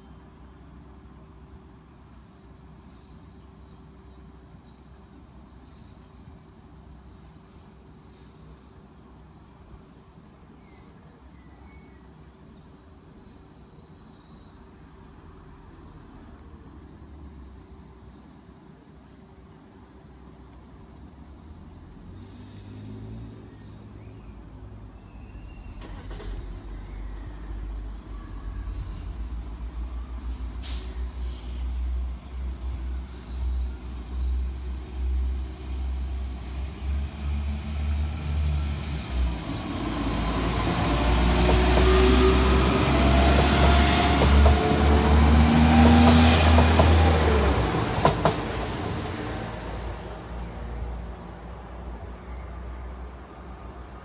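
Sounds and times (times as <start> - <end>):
diesel train passing: 0.0 - 11.4, 12.0 - 54.0.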